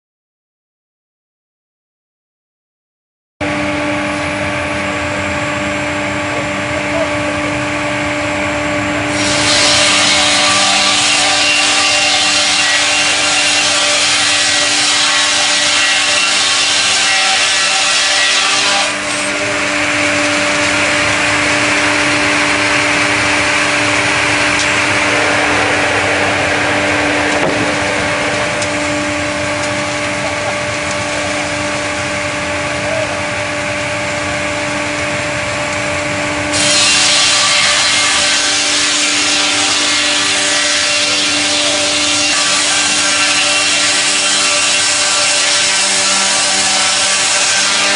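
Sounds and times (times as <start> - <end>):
sawmill blades sawing a log: 3.5 - 47.9.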